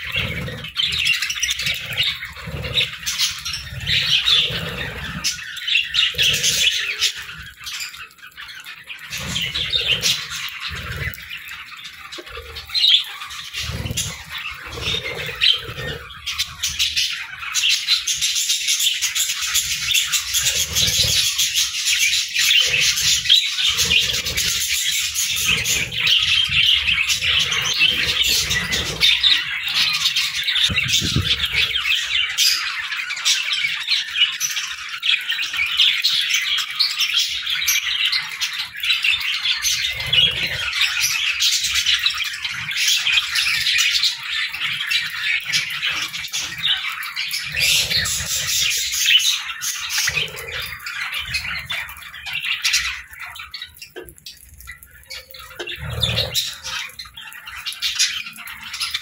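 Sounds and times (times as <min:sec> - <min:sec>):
flock of budgerigars chirping: 0:00.0 - 0:59.0.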